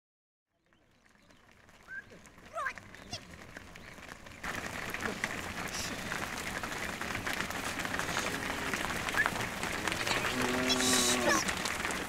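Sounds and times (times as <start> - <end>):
cattle hooves stepping on road: 0.5 - 12.0.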